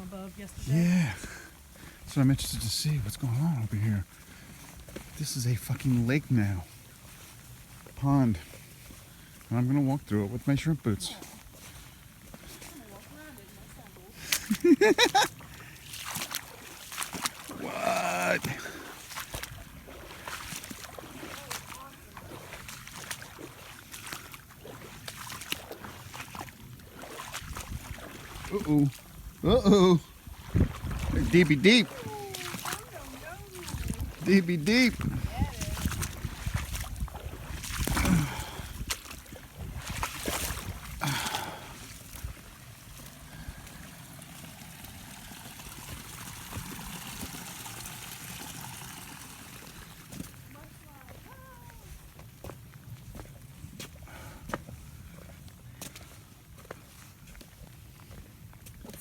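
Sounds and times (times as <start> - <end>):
boots splashing through water: 0.0 - 59.0.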